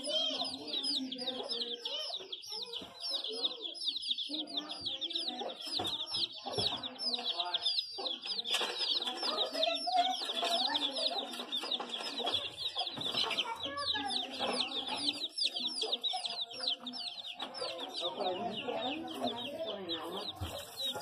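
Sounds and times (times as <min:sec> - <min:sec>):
baby chicks peeping: 0:00.0 - 0:21.0.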